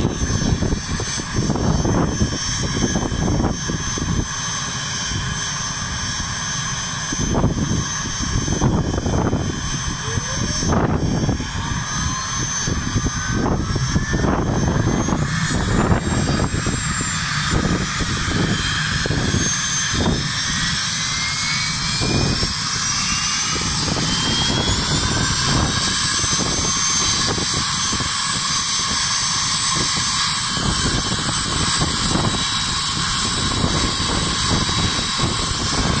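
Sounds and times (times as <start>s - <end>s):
airplane engines running: 0.0s - 36.0s
engine whine rising in pitch: 0.0s - 36.0s.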